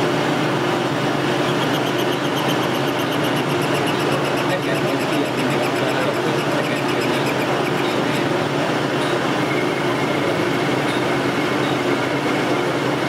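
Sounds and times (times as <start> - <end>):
metal lathe drone: 0.0 - 13.0.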